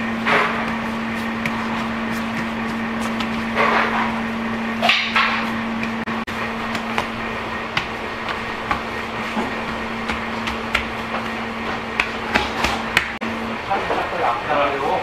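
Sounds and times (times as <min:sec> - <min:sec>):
dough kneading knocks and thumps: 0:00.0 - 0:13.2
steady hum: 0:00.0 - 0:15.0.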